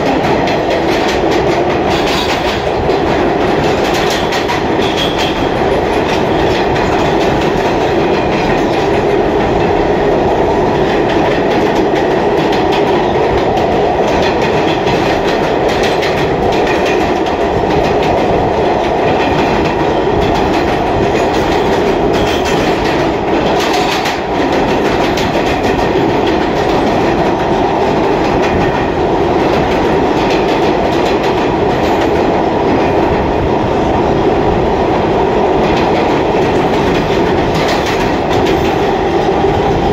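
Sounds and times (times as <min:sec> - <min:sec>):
sharp clicks of train wheels: 0:00.0 - 0:39.9
train wheels rumbling on rail: 0:00.0 - 0:39.9.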